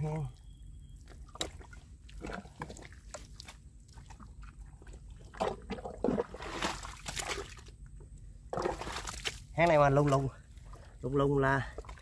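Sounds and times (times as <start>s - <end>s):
wet mud squelching: 0.0s - 12.0s.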